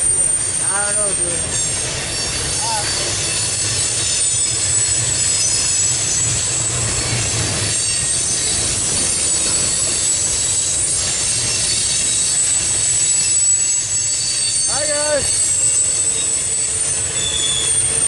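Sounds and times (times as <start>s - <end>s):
high wheel squeal: 0.0s - 18.0s
train wheels rumbling on rail: 0.0s - 18.0s.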